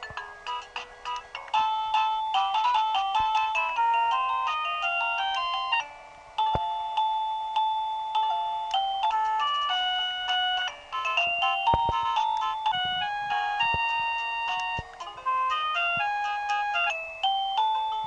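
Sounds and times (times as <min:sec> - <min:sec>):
electronic doorbell chime tunes: 0:01.6 - 0:18.0.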